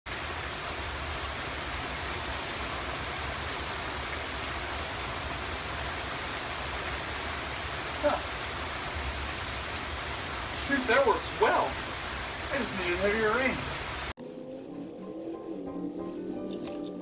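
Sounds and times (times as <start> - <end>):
rain drops tapping: 0.1 - 14.1
steady rain falling: 0.1 - 14.2.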